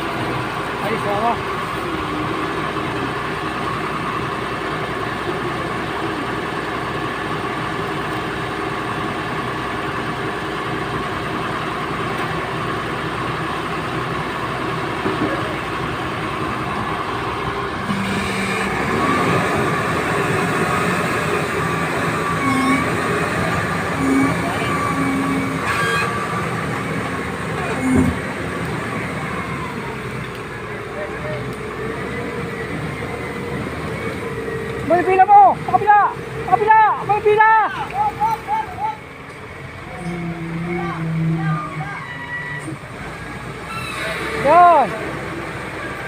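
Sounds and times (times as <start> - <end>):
heavy truck engine under load: 0.0 - 46.0.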